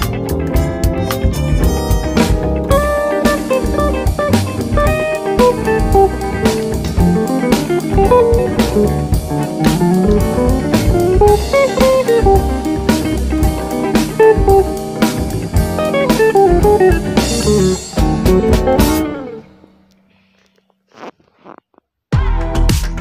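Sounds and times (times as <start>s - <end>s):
steady drum beat: 0.0s - 19.2s
plucked guitar melody: 0.0s - 19.7s.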